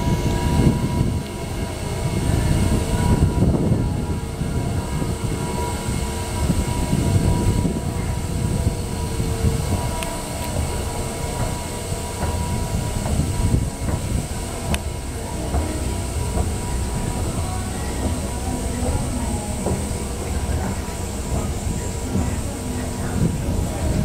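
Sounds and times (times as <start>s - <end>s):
escalator mechanical rumble: 0.0s - 24.0s
faint steady hum: 0.0s - 24.0s.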